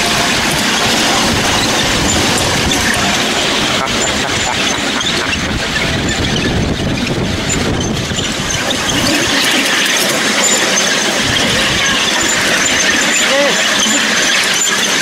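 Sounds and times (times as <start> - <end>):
high wheel squeal: 0.0 - 15.0
train wheels on track: 0.0 - 15.0.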